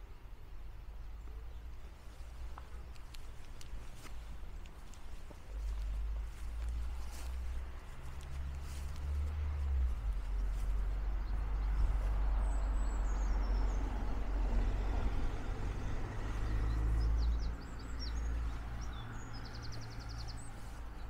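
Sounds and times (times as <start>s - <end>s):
small birds chirping: 0.0s - 21.0s
steady low rumble: 0.4s - 21.0s.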